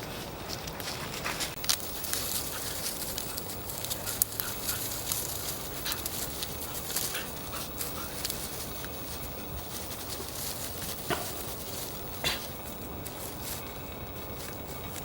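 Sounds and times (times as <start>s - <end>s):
footsteps crackling on forest path: 0.0s - 15.0s.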